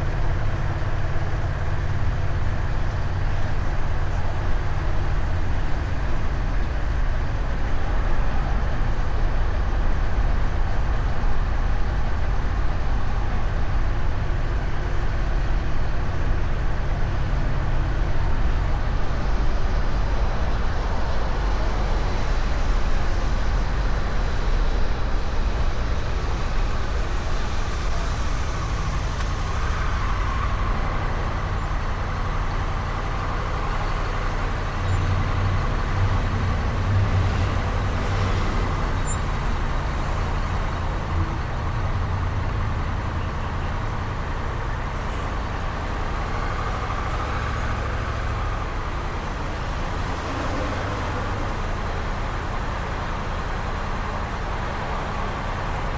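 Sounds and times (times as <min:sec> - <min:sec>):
road noise: 0:00.0 - 0:55.9.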